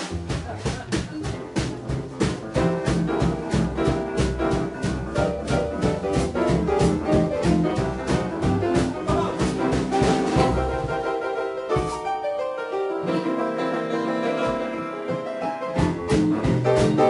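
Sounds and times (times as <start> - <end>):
boogie-woogie jazz band: 0.0 - 17.0.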